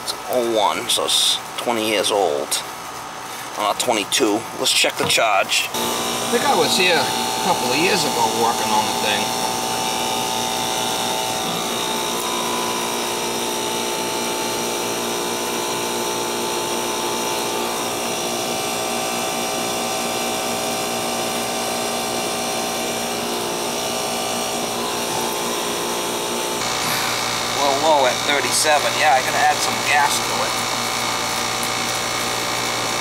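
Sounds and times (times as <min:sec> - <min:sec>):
air conditioning unit humming: 0:00.0 - 0:33.0.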